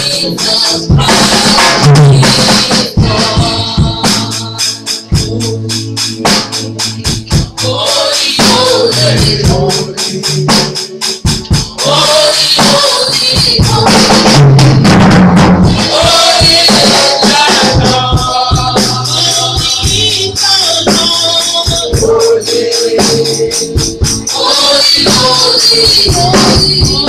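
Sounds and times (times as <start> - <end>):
women singing gospel: 0.0 - 5.7, 7.3 - 14.3, 15.7 - 27.0
shaken percussion: 0.0 - 14.3, 15.6 - 27.0
drums: 0.0 - 27.0.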